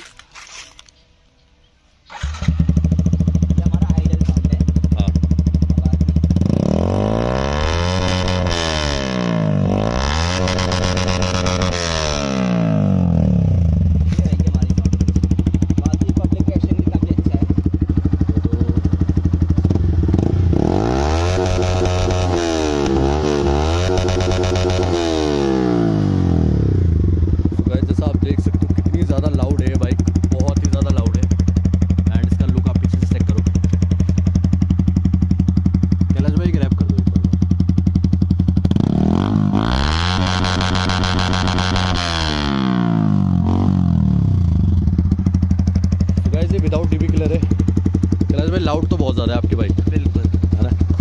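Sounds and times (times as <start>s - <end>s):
motorcycle engine idling and revving: 0.0s - 51.0s.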